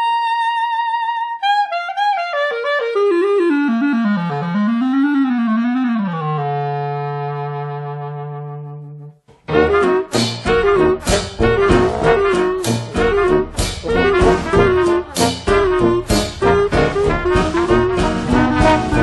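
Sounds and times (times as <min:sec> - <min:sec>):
wind instrument melody: 0:00.0 - 0:19.0.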